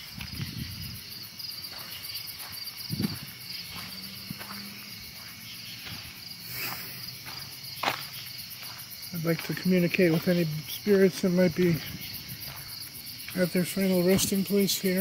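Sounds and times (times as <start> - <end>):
crickets chirping: 0.0 - 15.0
footsteps on dirt path: 0.0 - 15.0.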